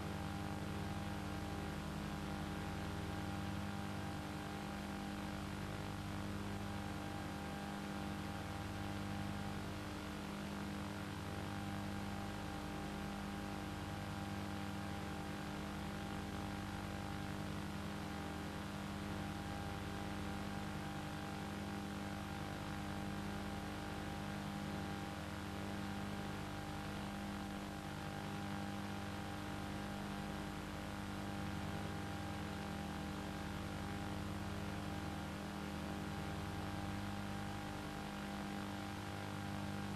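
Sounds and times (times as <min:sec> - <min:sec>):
mechanical hum: 0:00.0 - 0:39.9.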